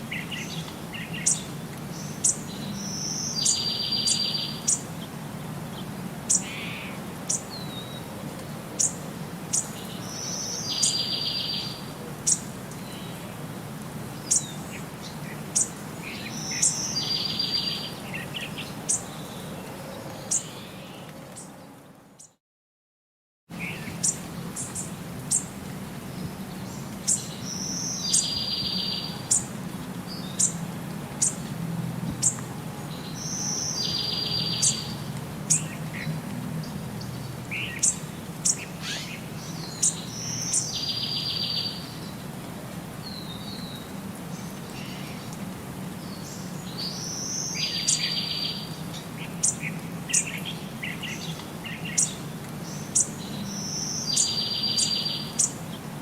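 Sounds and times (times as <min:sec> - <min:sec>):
small birds chirping: 0:00.0 - 0:13.4, 0:14.2 - 0:22.4, 0:23.6 - 0:30.6, 0:31.2 - 0:31.5, 0:32.1 - 0:42.3, 0:43.0 - 0:55.9.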